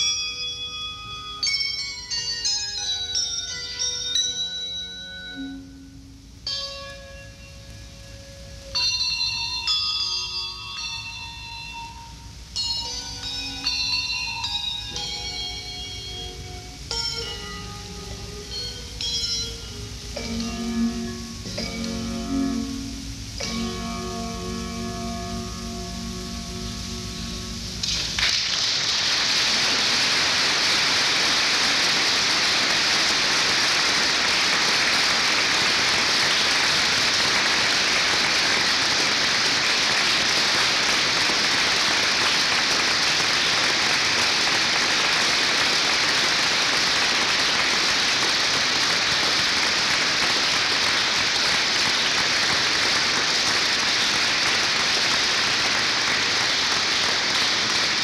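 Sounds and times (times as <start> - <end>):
loud steady hiss: 0.0 - 58.0.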